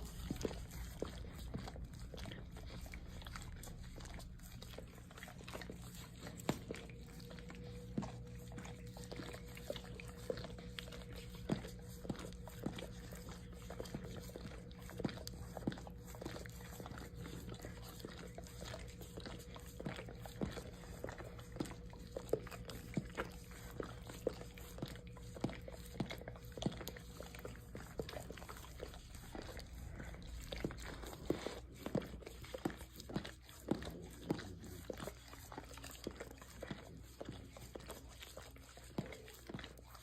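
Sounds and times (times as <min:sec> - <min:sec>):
dogs licking and lapping: 0:00.0 - 0:40.0
steady low hum: 0:00.0 - 0:40.0.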